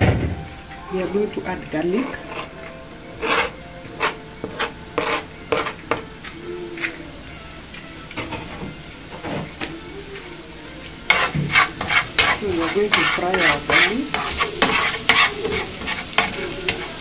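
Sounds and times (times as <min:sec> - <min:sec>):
garlic sizzling in hot oil: 0:00.5 - 0:17.0.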